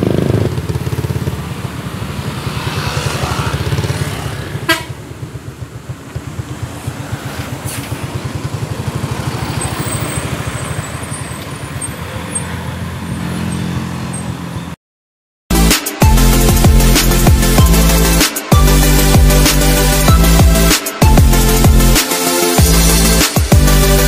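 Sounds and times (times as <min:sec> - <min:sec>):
diesel bus engine throbbing: 0:00.0 - 0:14.8, 0:15.5 - 0:22.0.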